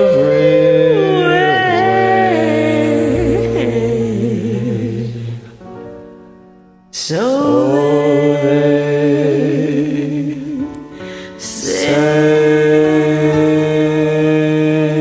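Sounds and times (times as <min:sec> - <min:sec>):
man and woman singing duet: 0:00.0 - 0:05.7, 0:07.0 - 0:15.0
karaoke backing track: 0:00.0 - 0:15.0.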